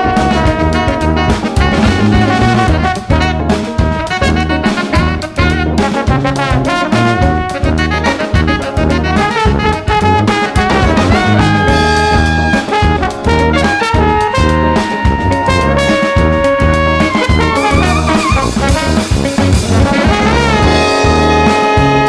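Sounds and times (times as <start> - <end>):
drum kit: 0.0 - 22.0
guitar: 0.0 - 22.0
keyboard: 0.0 - 22.0
saxophone and trombone horn lines: 0.0 - 22.0
tuba bass line: 0.0 - 22.0.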